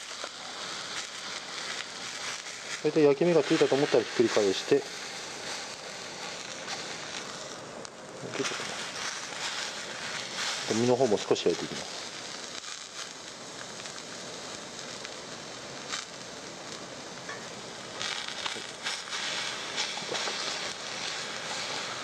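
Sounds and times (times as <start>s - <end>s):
fish searing in frying pan: 0.0s - 22.0s.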